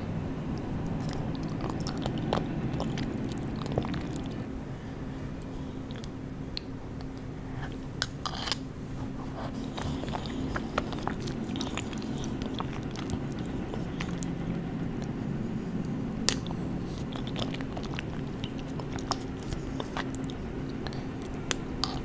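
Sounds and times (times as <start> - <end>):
low steady hum: 0.0 - 22.0
chewing candies: 0.6 - 4.5, 5.8 - 8.6, 9.4 - 15.2, 15.8 - 22.0.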